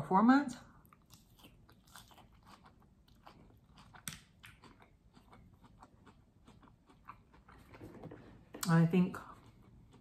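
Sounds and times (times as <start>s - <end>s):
chewing crunchy food: 0.7s - 10.0s.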